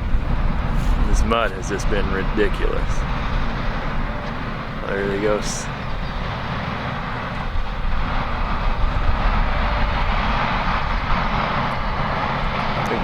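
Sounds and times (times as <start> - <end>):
truck engine driving through mud: 0.0 - 13.0.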